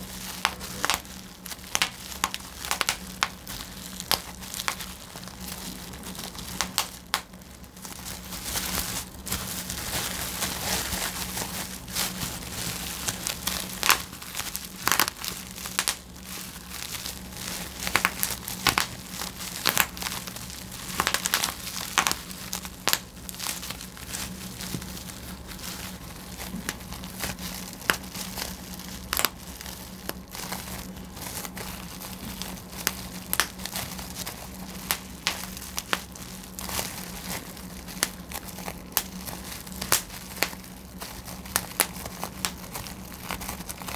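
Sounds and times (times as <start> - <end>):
bubble wrap popping: 0.0 - 43.9
plastic sheet crinkling: 0.0 - 43.9
steady low hum: 0.0 - 43.9.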